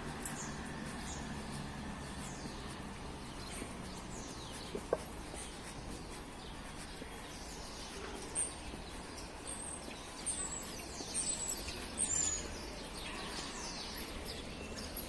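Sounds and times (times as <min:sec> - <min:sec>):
low hum of town ambience: 0:00.0 - 0:15.0
small birds chirping: 0:00.0 - 0:15.0.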